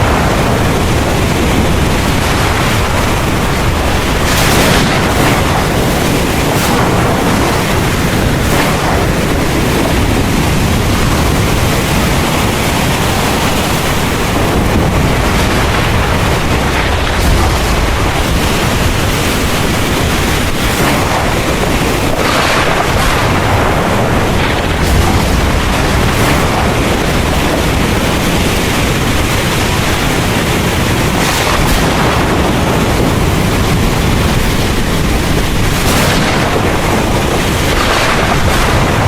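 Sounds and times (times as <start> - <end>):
heavy rain pouring: 0.0 - 39.0
thunder rumbling: 0.0 - 39.0.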